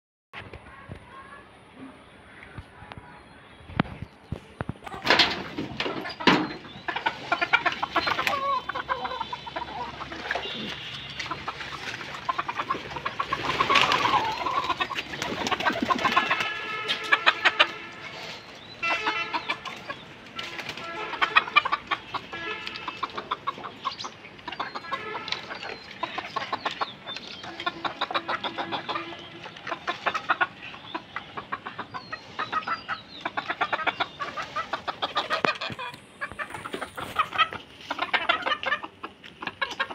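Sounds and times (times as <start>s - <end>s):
hens clucking: 3.9s - 39.9s.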